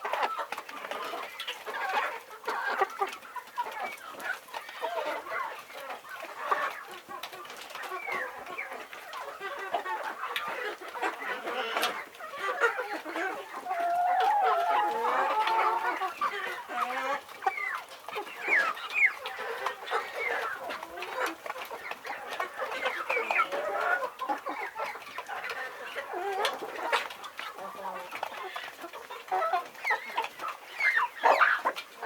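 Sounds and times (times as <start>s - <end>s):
chickens clucking: 0.0s - 32.0s
drawn-out chicken call: 0.0s - 32.0s.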